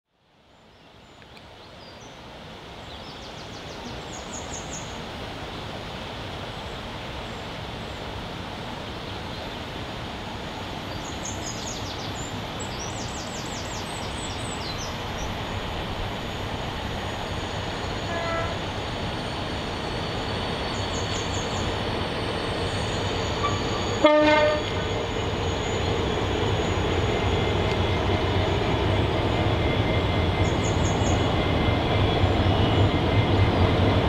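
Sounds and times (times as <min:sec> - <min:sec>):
distant freight train rumble: 0:03.7 - 0:34.0.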